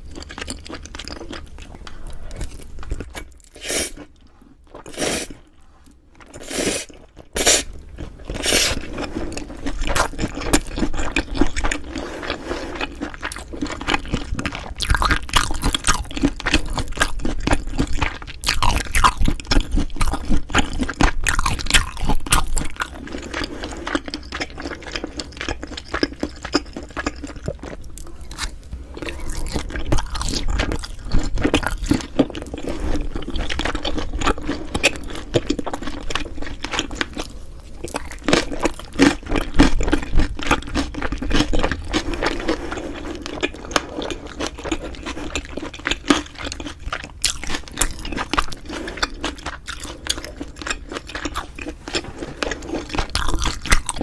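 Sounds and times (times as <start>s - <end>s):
chewing and crunching: 0.0s - 54.0s.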